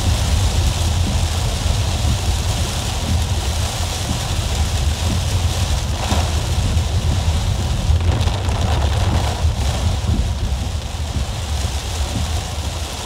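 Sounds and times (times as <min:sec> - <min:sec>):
car driving on flooded road: 0:00.0 - 0:13.0
heavy rain on car roof: 0:00.0 - 0:13.0.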